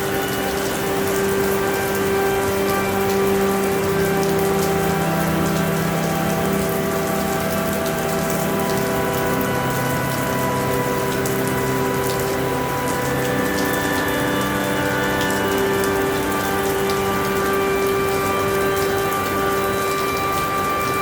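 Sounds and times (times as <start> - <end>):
steady rainfall hiss: 0.0 - 21.0.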